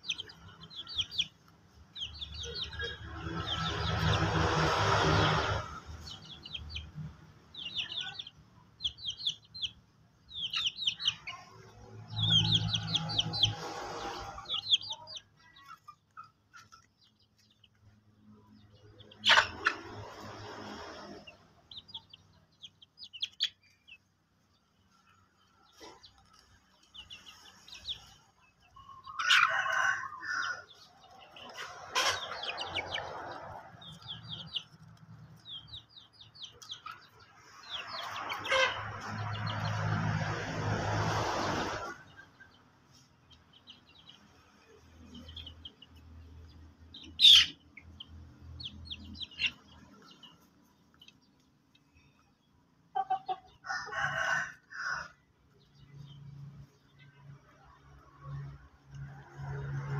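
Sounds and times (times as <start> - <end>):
chickens chirping: 0.0 - 59.9.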